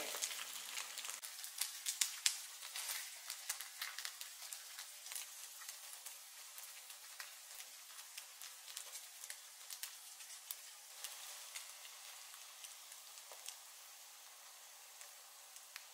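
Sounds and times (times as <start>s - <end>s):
crackles and pops: 0.0s - 15.9s
food sizzling in oil: 0.0s - 15.9s.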